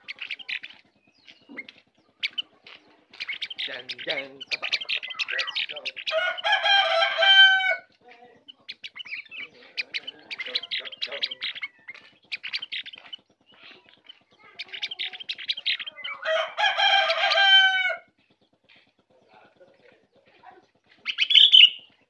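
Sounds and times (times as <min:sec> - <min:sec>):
bird chirping and chattering: 0:00.0 - 0:22.0
drawn-out bird call: 0:00.0 - 0:22.0.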